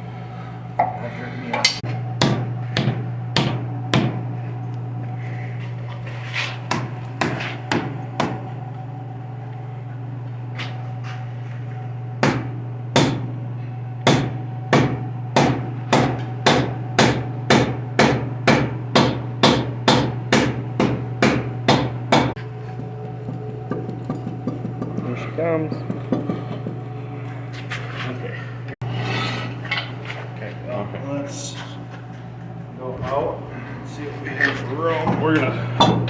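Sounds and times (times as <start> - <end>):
low hum: 0.0 - 36.0.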